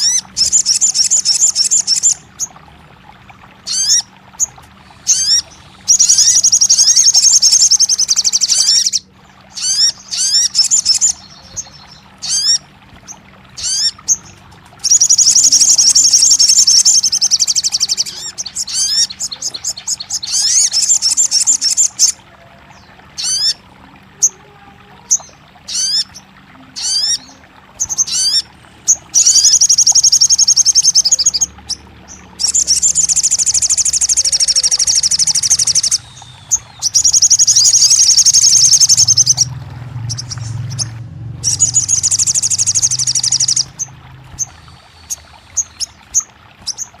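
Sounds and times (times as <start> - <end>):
bird song with high trills: 3.7 - 12.6, 13.6 - 23.6, 26.8 - 47.0.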